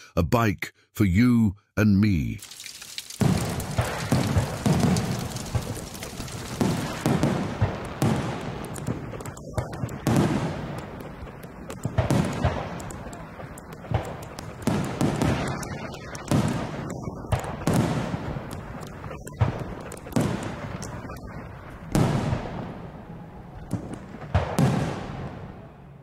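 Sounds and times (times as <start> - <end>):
firework crackling: 2.4 - 25.7
firework booms: 3.0 - 25.9.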